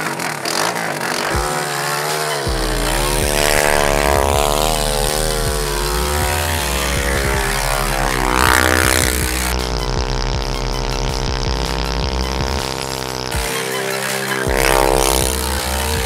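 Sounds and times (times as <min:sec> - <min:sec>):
dirt bike engine revving: 0:00.0 - 0:16.0
music with deep bass line: 0:00.0 - 0:16.0.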